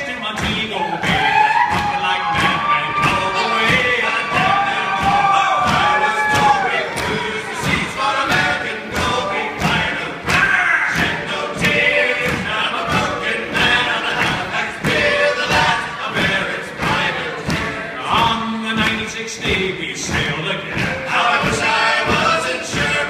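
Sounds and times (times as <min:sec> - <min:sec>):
men singing together: 0:00.0 - 0:23.0
steady beat of hits: 0:00.4 - 0:23.0.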